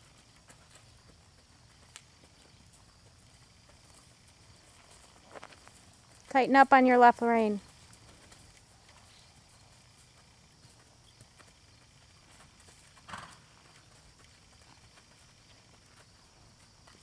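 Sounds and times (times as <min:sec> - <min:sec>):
horse hoofbeats on grass and dirt: 0:00.0 - 0:17.0.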